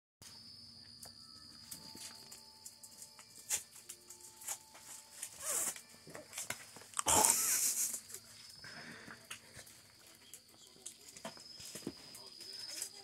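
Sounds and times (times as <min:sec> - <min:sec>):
faint high whine: 0:00.2 - 0:13.0.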